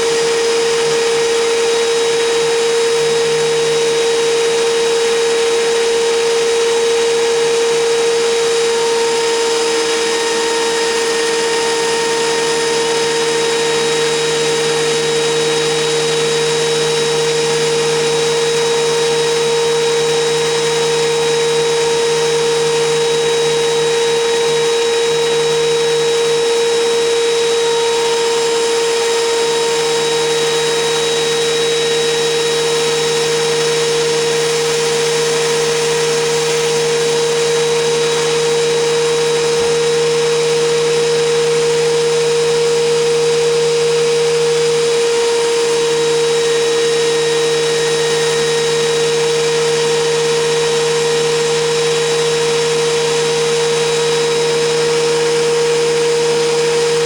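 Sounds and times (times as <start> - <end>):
thickness planer whining: 0.0 - 57.0.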